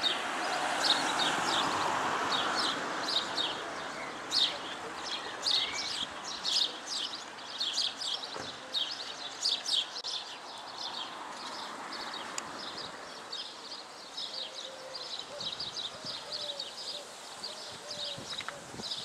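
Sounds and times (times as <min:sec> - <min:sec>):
faint background noise: 0:00.0 - 0:19.0
small birds chirping: 0:00.8 - 0:19.0.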